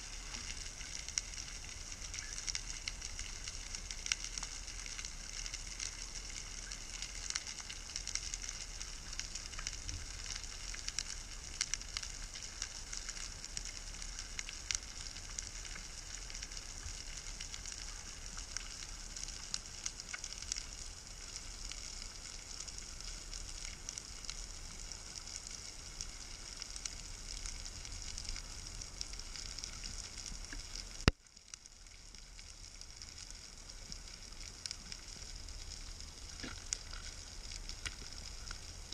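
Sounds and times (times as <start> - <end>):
underwater reef crackle: 0.0 - 38.9.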